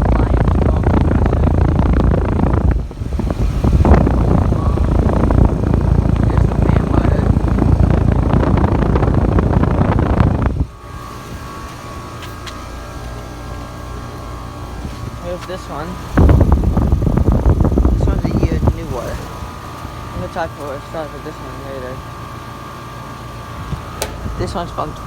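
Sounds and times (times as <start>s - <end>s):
fan airflow buffeting microphone: 0.0s - 25.0s
steady hum with high tone: 0.0s - 25.0s.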